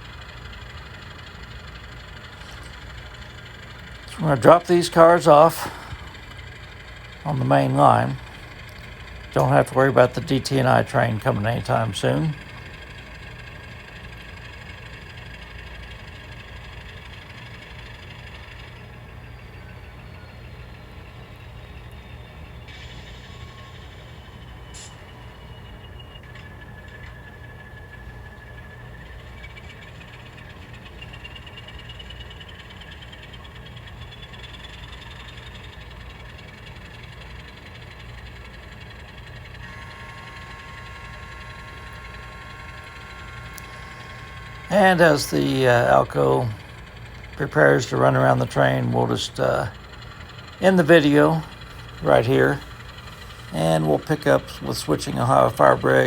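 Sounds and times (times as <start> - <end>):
diesel engine rumble: 0.0 - 56.0
high steady whine: 0.0 - 56.0
model locomotive motor hum: 0.0 - 56.0.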